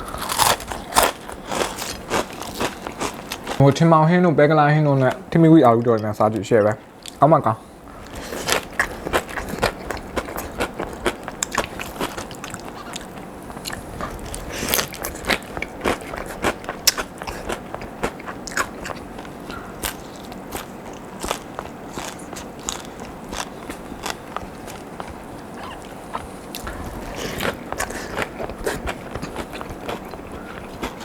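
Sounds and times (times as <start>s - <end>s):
crunchy chewing of fried potato sticks: 0.0s - 3.9s, 7.9s - 31.0s.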